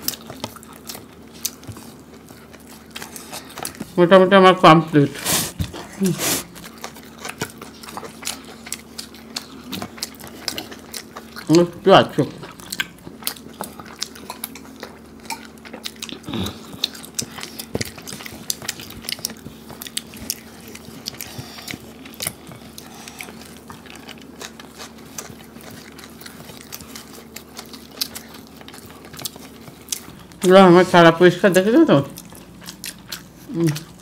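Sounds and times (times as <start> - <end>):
faint steady hum: 0.0 - 34.0
people chewing and biting: 0.0 - 34.0.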